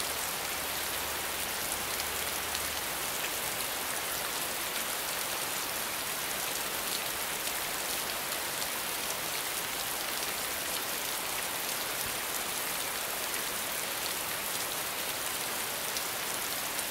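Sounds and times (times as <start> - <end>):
steady rainfall: 0.0 - 16.9.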